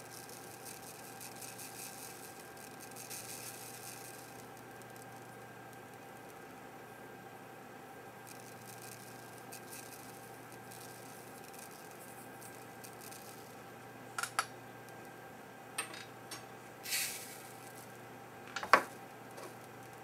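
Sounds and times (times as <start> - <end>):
solder balls rattling: 0.0 - 6.4, 8.2 - 15.0, 15.8 - 20.0.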